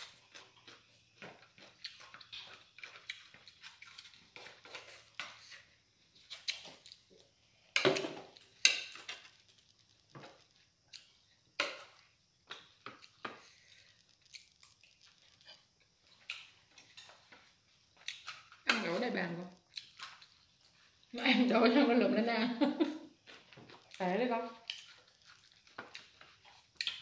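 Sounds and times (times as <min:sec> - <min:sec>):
chewing: 0:00.0 - 0:07.3, 0:08.3 - 0:18.8, 0:19.5 - 0:21.2, 0:23.2 - 0:27.0.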